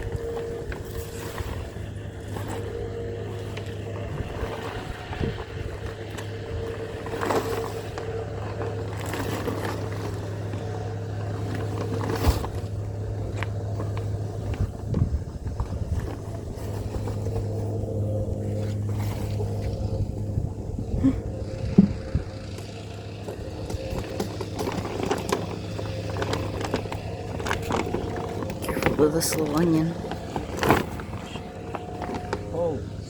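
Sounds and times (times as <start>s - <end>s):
low motor hum: 0.0s - 33.0s.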